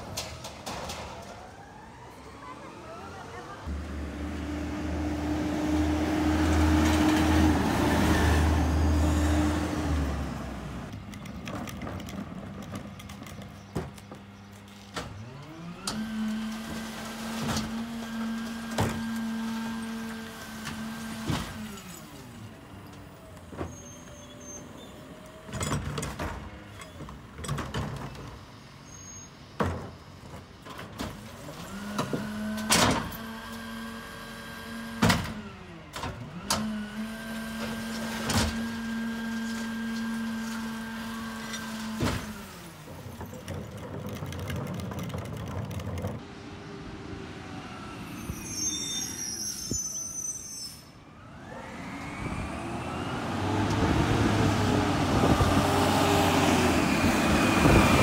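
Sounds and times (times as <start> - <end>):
garbage truck engine whine: 0.0 - 30.2, 31.3 - 58.0.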